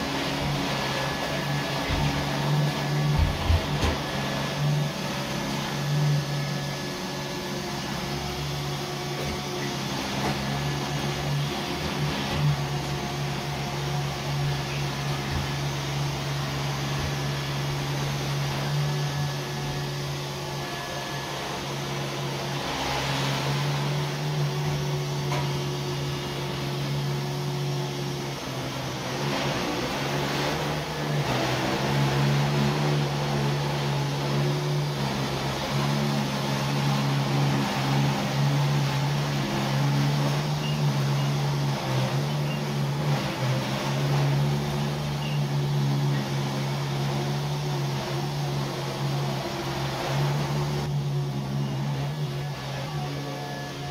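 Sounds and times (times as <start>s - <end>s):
robot vacuum cleaner humming: 0.0s - 53.9s.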